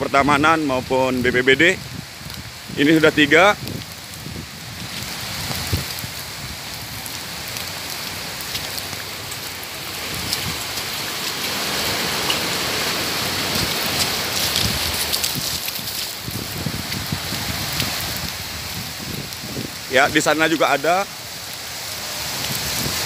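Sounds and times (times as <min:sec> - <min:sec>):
rain falling: 0:00.0 - 0:23.0
raindrop impacts: 0:00.8 - 0:23.0.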